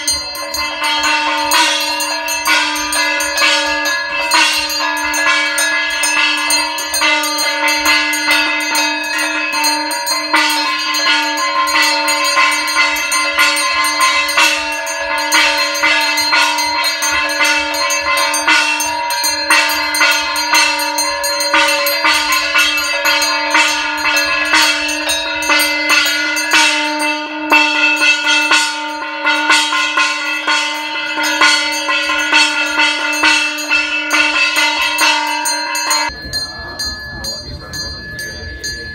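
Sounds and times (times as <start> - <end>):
brass hand bell ringing rapidly: 0.0 - 38.9.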